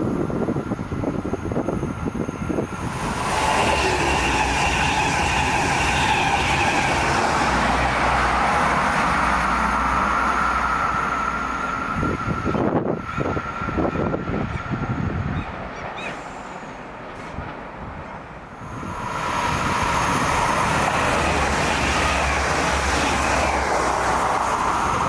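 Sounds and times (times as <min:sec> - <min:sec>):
wind buffeting microphone: 0:00.0 - 0:15.7, 0:17.3 - 0:25.0
electric train passing: 0:00.0 - 0:25.0.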